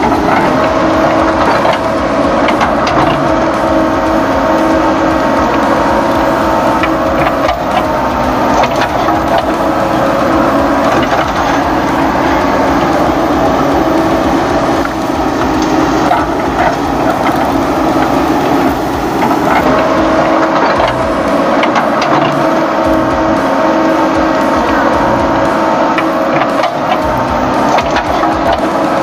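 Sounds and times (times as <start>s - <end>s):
electric motors whining: 0.0s - 29.0s
plastic tracks clattering: 0.0s - 29.0s.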